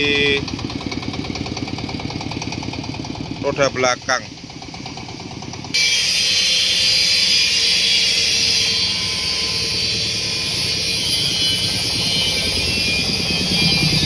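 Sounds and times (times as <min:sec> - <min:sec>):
machine engine running: 0:00.0 - 0:14.0.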